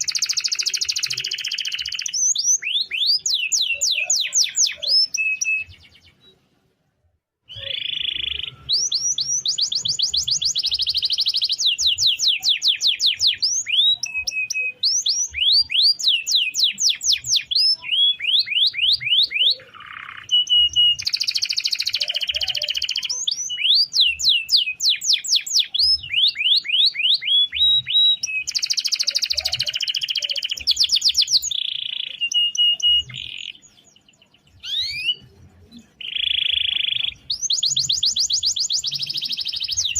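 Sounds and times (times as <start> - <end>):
canary singing trills: 0.0 - 6.5, 7.4 - 39.9.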